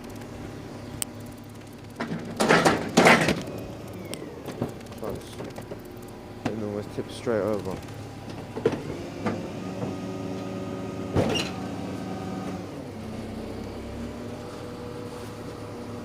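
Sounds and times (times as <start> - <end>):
hydraulic bin lift humming: 0.0 - 16.0.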